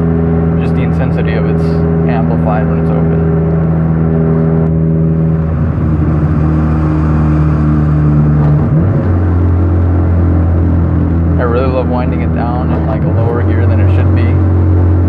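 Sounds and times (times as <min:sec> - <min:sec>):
car engine and exhaust droning: 0:00.0 - 0:15.0.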